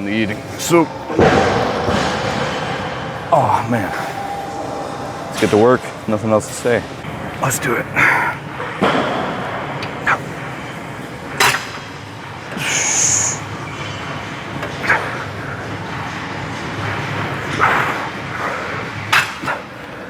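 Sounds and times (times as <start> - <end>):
steady room hum: 0.0 - 20.0.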